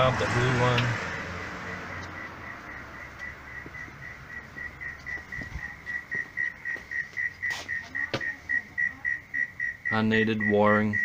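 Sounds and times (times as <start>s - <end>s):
rapid high-pitched chirping: 2.2s - 11.0s.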